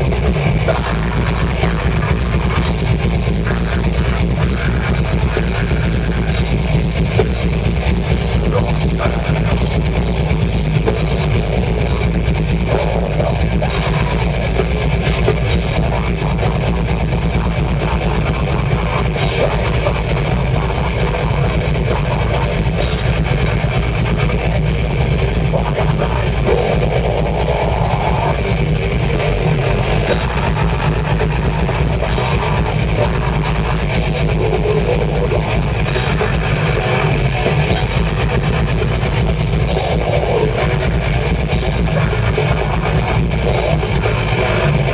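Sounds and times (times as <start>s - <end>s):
drum kit: 0.0s - 44.9s
electric guitars: 0.0s - 44.9s
live heavy rock band playing: 0.0s - 44.9s.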